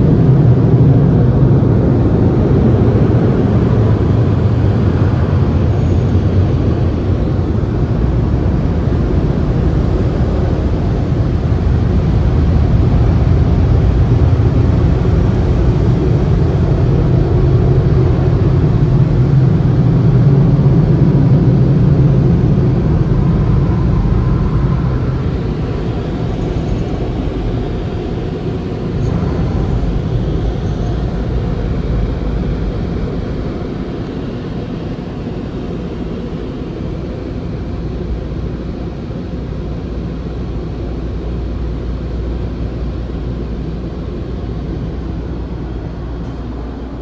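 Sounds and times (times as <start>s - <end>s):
car wash machinery roaring: 0.0s - 47.0s.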